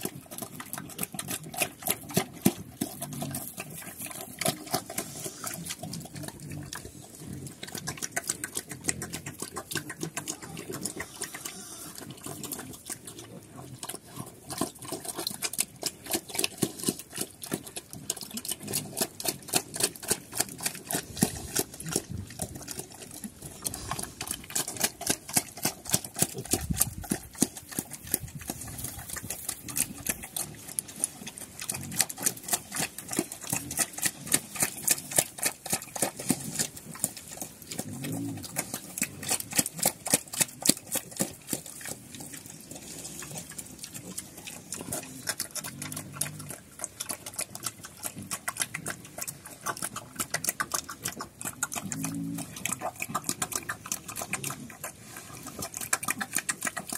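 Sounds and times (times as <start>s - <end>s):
low pig grunts: 0.0s - 56.9s
pig chewing and smacking: 0.0s - 56.9s.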